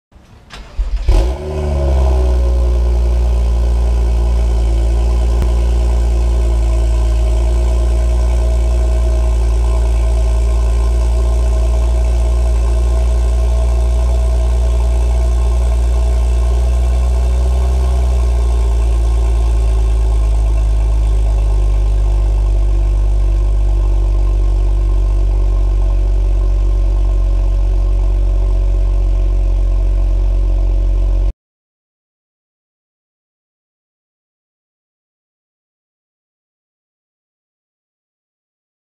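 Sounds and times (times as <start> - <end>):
car engine cold start and idle: 0.2 - 31.3.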